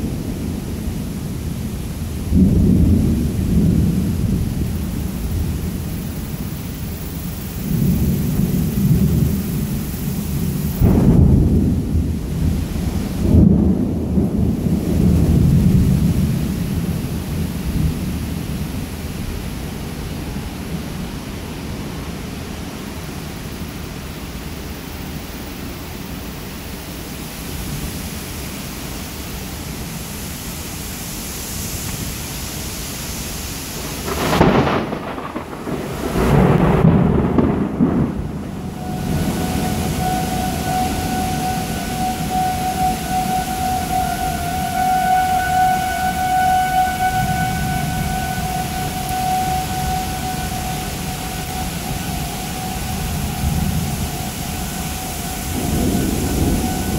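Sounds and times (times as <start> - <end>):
thunder rumbling: 0.0 - 24.0, 33.6 - 56.9
steady rain: 0.0 - 56.9.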